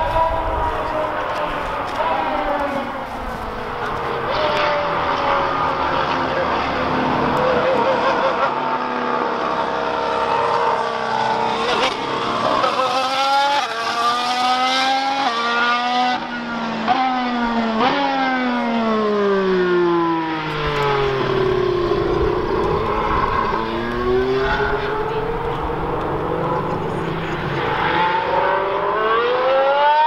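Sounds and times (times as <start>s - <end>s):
racing car engine accelerating: 0.0s - 30.0s.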